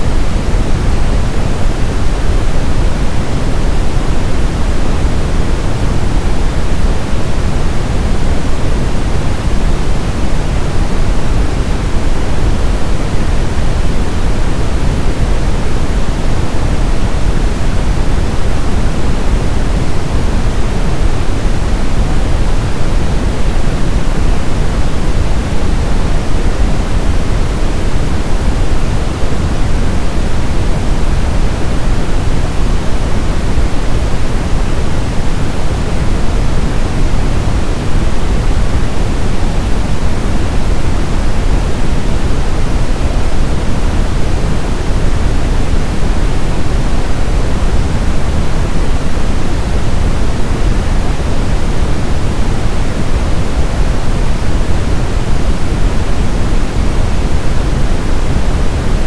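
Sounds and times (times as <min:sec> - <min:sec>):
brown noise: 0:00.0 - 0:59.0.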